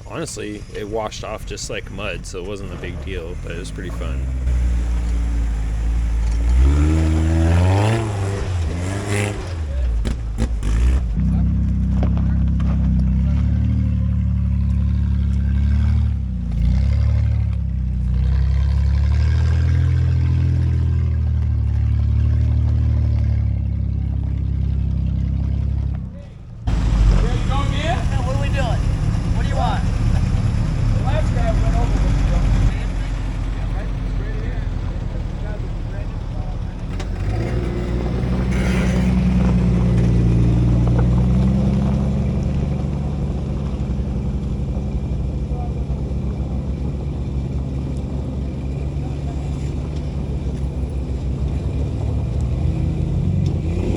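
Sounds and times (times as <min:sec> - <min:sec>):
engine running under load: 0:00.0 - 0:53.9.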